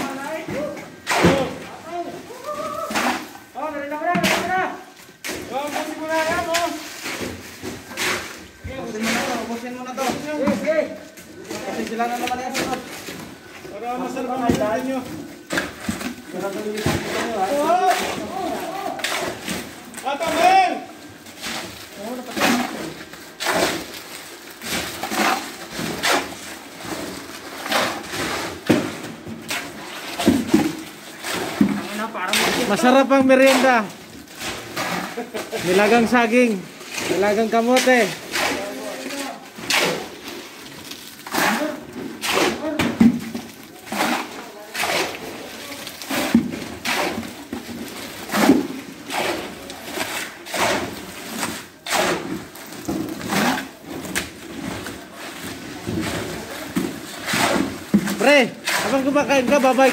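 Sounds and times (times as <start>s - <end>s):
shovels scraping wet concrete: 0.0s - 59.9s.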